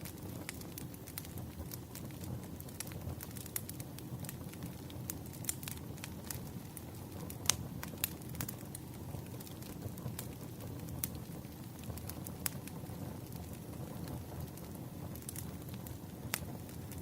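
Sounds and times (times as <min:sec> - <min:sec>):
firewood crackling: 0:00.0 - 0:17.0.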